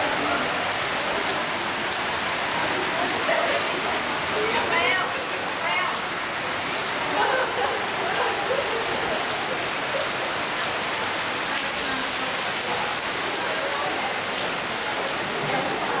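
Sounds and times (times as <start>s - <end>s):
heavy rain and hail on pavement: 0.0s - 16.0s.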